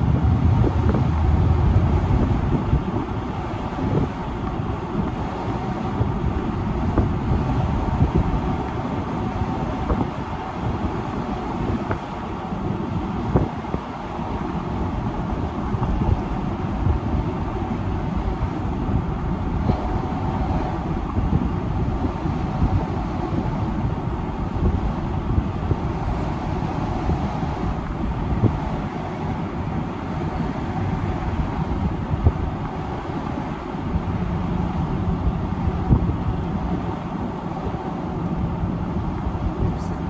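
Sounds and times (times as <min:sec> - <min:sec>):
car tyres and engine rumble: 0:00.0 - 0:40.0.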